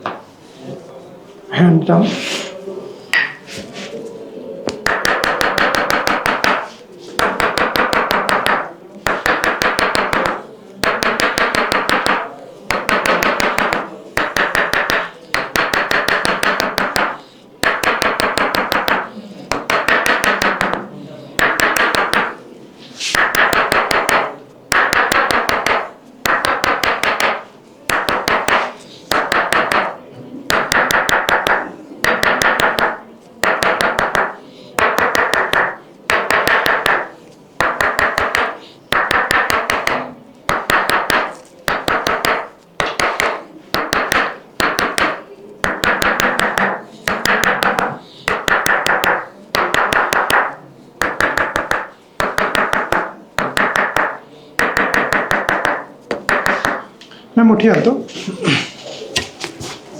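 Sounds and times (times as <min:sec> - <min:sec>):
rapid massage strikes on back: 0:04.8 - 0:22.4, 0:23.0 - 0:56.9.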